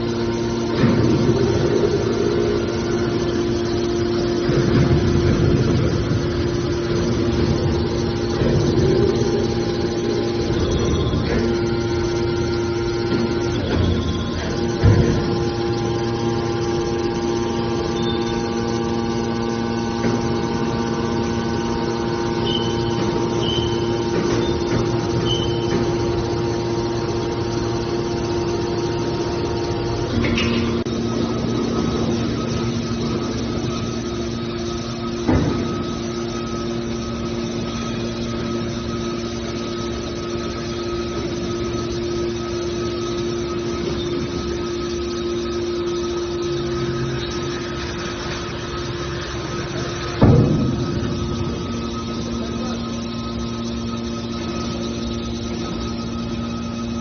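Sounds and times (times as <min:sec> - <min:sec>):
baler machine hum: 0:00.0 - 0:57.0.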